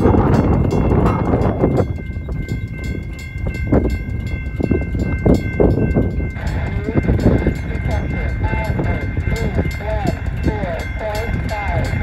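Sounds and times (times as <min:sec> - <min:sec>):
freight train rumbling on rails: 0:00.0 - 0:12.0
mechanical bell striking rapidly: 0:00.0 - 0:12.0.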